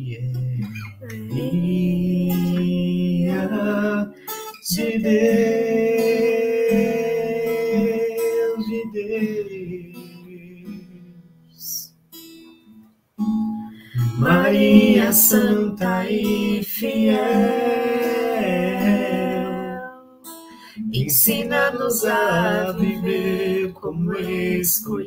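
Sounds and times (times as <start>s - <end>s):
person singing a hymn: 0.0s - 11.1s, 13.9s - 25.0s
acoustic guitar: 0.0s - 25.0s.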